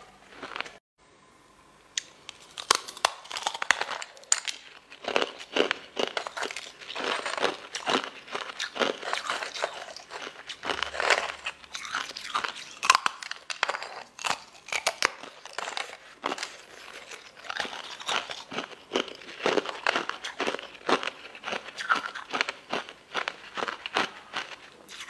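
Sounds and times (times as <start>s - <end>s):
crisp crunches of chewing: 0.3s - 0.8s, 2.0s - 25.0s.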